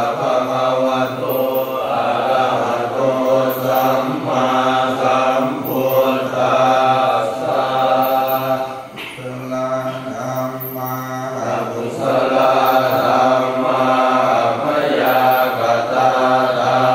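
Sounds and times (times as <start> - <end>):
voices chanting in monotone: 0.0 - 16.9.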